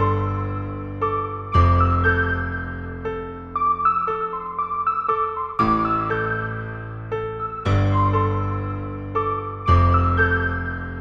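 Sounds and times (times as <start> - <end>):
slow keyboard music: 0.0 - 11.0.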